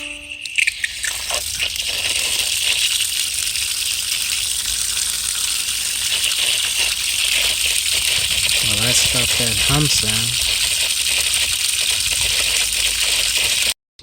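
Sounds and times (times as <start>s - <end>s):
water gushing from faucet: 0.4s - 13.8s.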